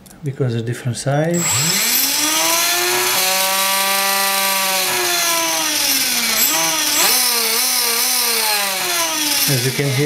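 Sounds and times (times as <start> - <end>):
electric motor whine: 1.4 - 10.0.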